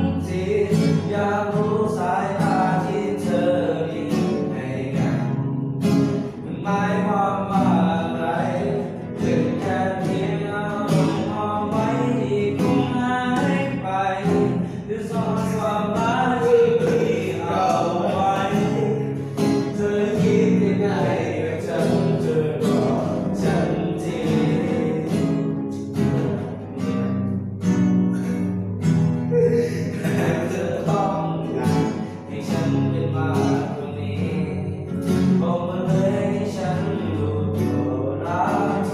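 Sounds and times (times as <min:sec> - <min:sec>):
person singing: 0:00.0 - 0:05.3, 0:06.1 - 0:27.1, 0:29.2 - 0:38.9
acoustic guitar: 0:00.0 - 0:38.9.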